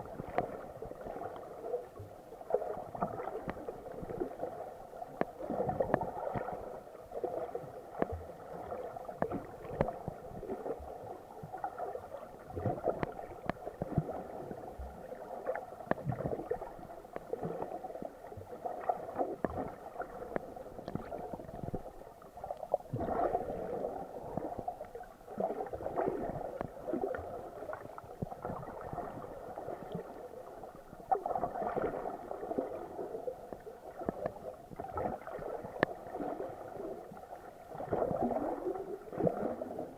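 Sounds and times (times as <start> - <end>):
muffled water sloshing: 0.0 - 39.9.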